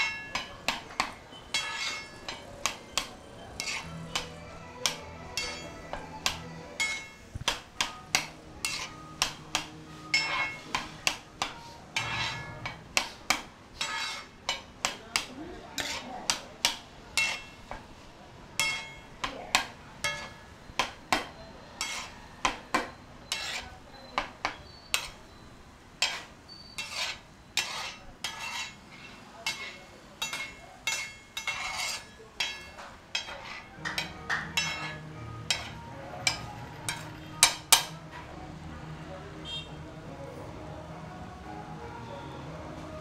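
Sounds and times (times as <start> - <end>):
metal spatula clanking on griddle: 0.0 - 18.0, 18.6 - 25.4, 26.0 - 38.2.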